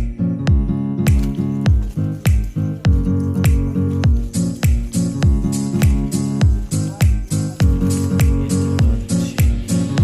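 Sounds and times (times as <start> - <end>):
music with steady beat: 0.0 - 10.0
sharp percussion ticks: 0.0 - 10.0
deep kick drum: 0.5 - 10.0.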